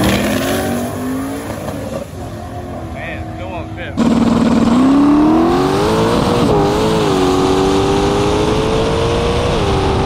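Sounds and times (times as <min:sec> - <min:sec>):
car engine at full throttle: 0:00.0 - 0:10.0.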